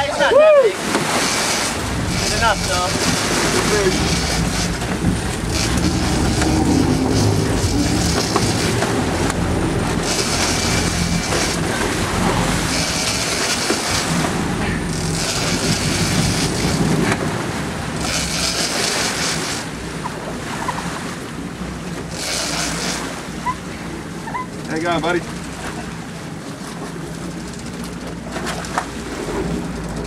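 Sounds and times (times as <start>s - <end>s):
rushing wind: 0.0s - 24.2s
boat engine running: 0.0s - 30.0s
sea noise: 0.0s - 30.0s.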